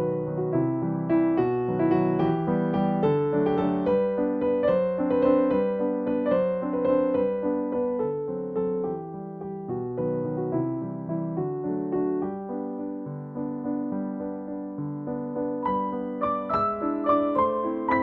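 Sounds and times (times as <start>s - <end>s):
soft piano melody: 0.0s - 18.0s.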